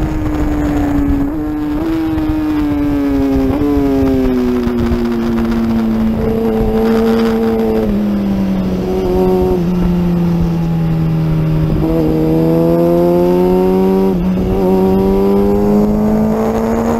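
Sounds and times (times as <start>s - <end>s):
motorcycle engine at speed: 0.0s - 16.9s.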